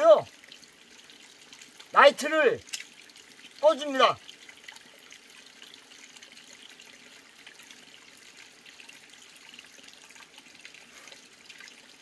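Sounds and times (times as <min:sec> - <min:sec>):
stream trickling over rocks: 0:00.0 - 0:12.0.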